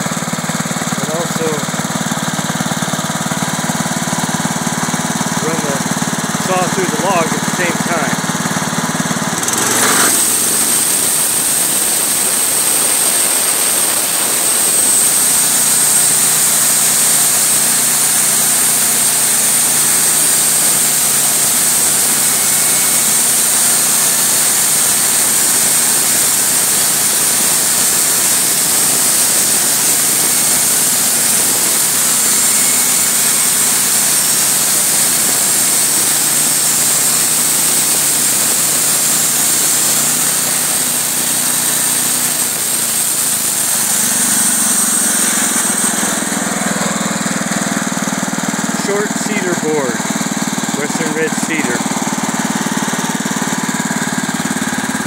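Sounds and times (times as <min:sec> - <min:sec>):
band saw blade whine: 0:00.0 - 0:55.0
engine running under load: 0:00.0 - 0:55.0.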